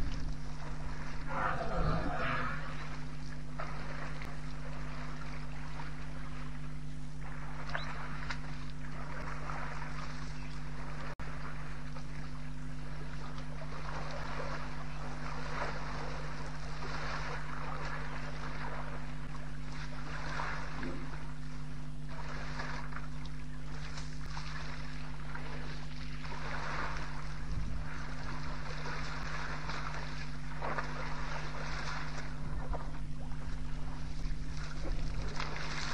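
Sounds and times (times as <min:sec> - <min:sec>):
steady electrical hum: 0:00.0 - 0:35.9.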